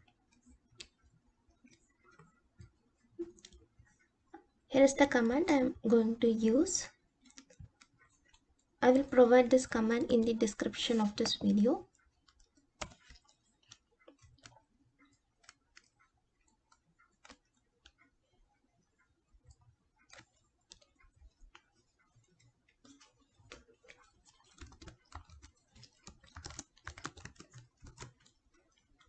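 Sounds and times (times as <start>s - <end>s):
typing on a computer keyboard: 0.0s - 4.0s, 4.8s - 18.4s, 19.0s - 29.0s.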